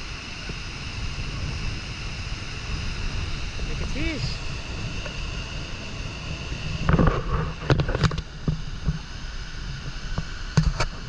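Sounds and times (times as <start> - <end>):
waterfall roaring: 0.0 - 9.2
wind buffeting microphone: 0.0 - 11.0.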